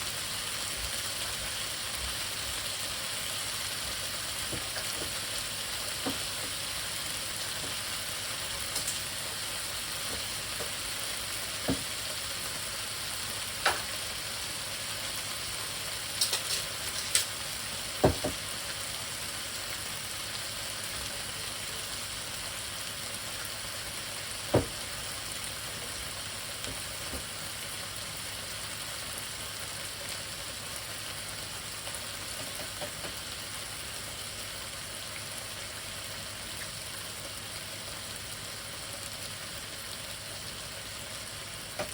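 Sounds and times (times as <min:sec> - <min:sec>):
food sizzling in a hot pan: 0:00.0 - 0:41.9.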